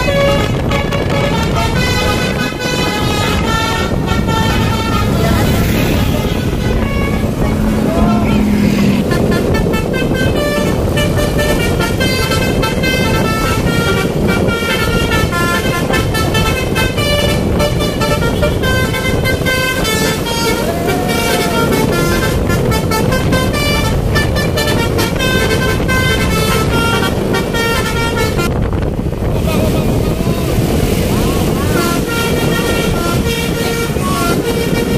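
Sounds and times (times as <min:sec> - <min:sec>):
musical bus horn melody: 0:00.0 - 0:34.9.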